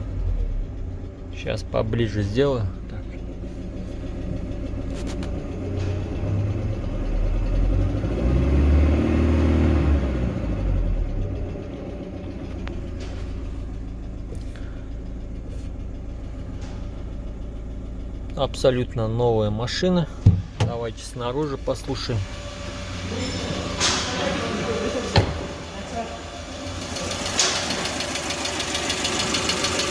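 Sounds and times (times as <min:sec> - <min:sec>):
petrol engine idling and revving: 0:00.0 - 0:29.9.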